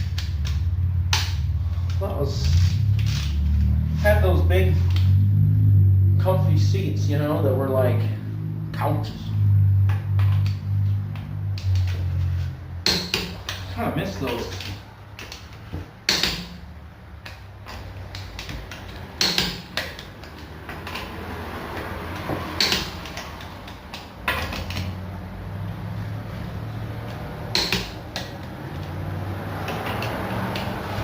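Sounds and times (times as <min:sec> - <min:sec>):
low steady hum: 0:00.0 - 0:29.5.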